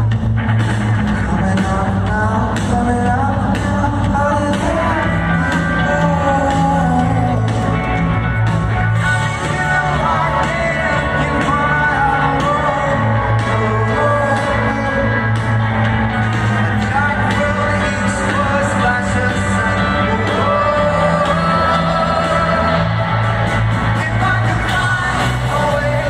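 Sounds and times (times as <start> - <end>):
held bass notes: 0.0 - 26.0
rock band playing live: 0.0 - 26.0
man singing: 1.1 - 26.0.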